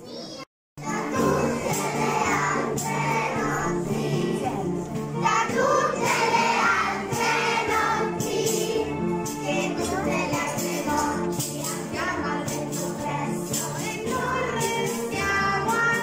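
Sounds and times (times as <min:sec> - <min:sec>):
children's choir singing: 0:00.8 - 0:16.0.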